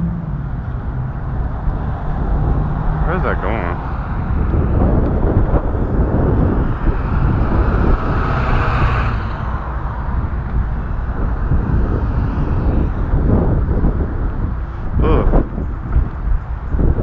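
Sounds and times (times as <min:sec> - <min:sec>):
vehicle passing: 0:00.0 - 0:15.0
road traffic: 0:00.0 - 0:17.0
wind buffeting microphone: 0:00.0 - 0:17.0.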